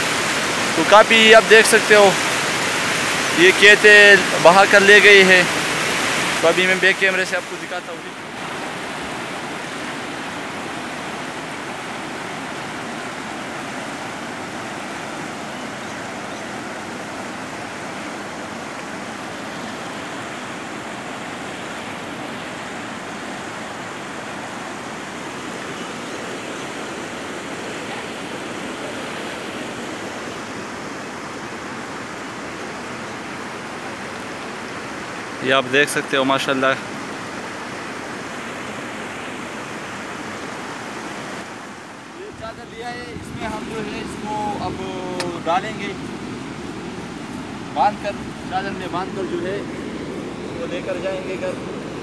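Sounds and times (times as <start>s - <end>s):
river rushing: 0.0s - 52.0s.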